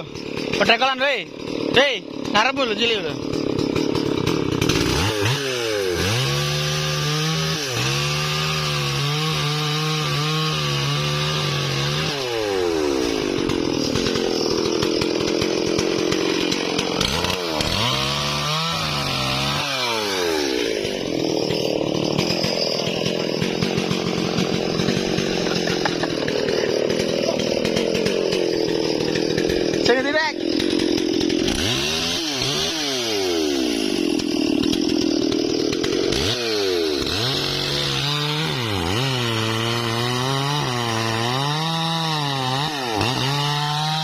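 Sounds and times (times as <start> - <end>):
chain sawing through wood: 0.0 - 44.0
chainsaw engine revving: 0.0 - 44.0.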